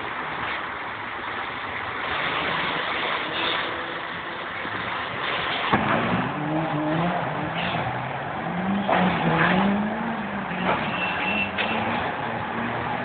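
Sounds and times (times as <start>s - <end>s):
truck engine accelerating: 1.0s - 13.0s.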